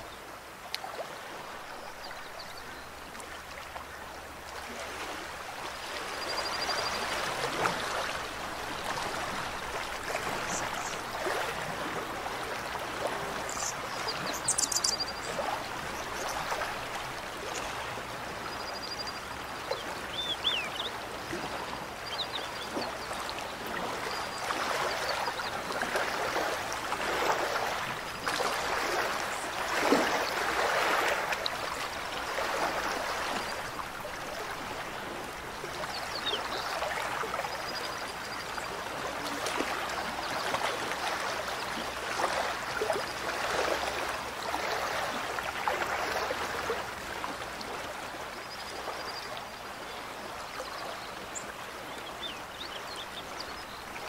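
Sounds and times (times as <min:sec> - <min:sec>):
stream rushing water: 0:00.0 - 0:54.0.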